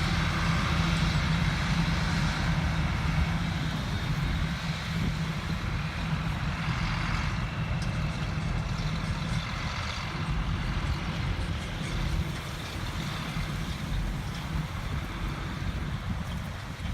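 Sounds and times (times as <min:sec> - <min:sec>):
constant rushing noise: 0:00.0 - 0:16.9
heavy engine humming: 0:00.0 - 0:16.9.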